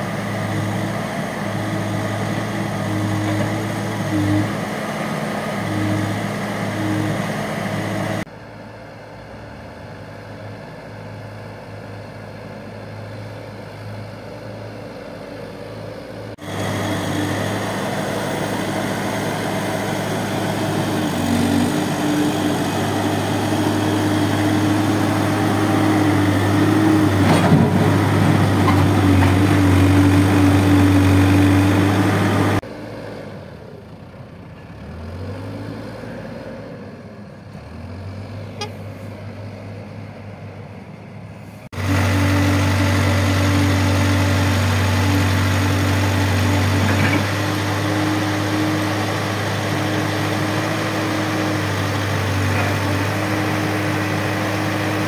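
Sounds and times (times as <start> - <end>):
diesel engine running: 0.0 - 55.0
distant backhoe engine working: 0.0 - 55.0.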